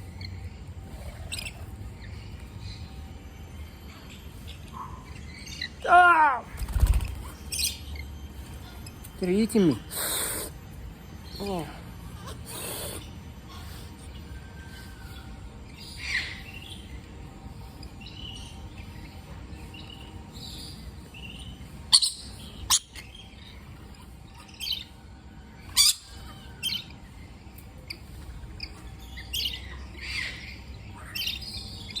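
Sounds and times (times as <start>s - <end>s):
parrots chirping and squawking: 0.0s - 32.0s.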